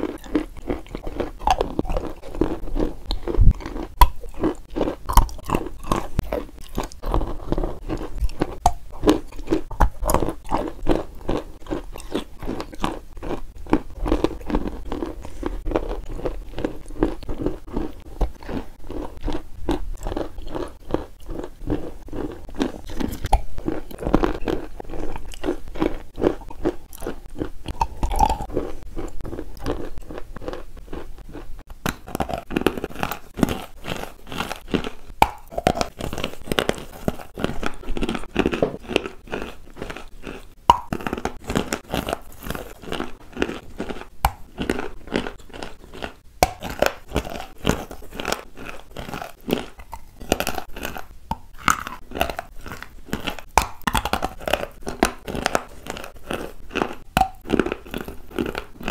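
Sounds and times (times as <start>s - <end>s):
wet eating clicks and smacks: 0.0s - 58.9s.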